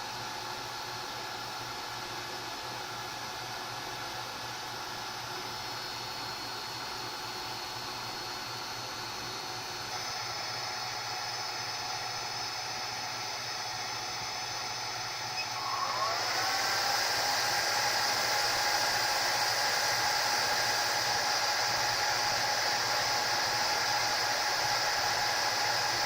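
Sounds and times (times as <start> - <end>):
hot-air blower hissing and whirring: 0.0 - 26.0.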